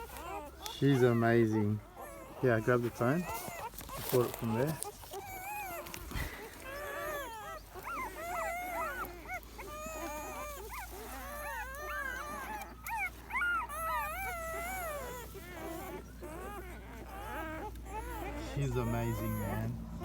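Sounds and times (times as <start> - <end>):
puppies whining and squealing: 0.0 - 20.0.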